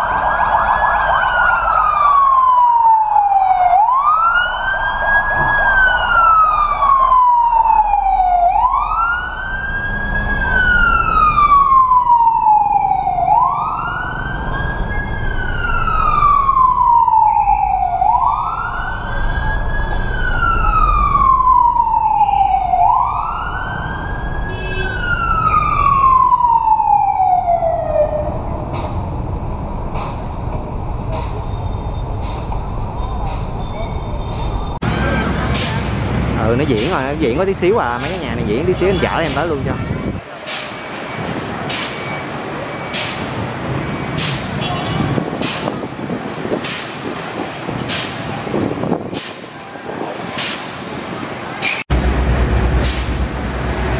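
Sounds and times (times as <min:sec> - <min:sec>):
fire engine siren wailing: 0:00.0 - 0:29.4, 0:34.8 - 0:53.9
traffic rumble: 0:00.0 - 0:53.9.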